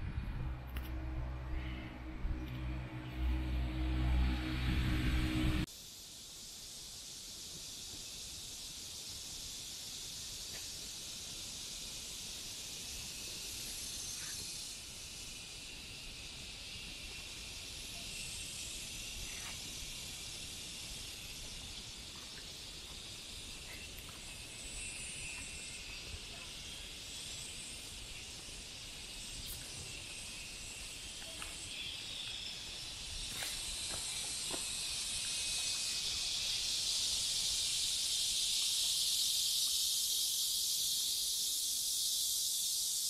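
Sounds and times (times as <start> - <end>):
insect chorus hissing: 0.0 - 43.0.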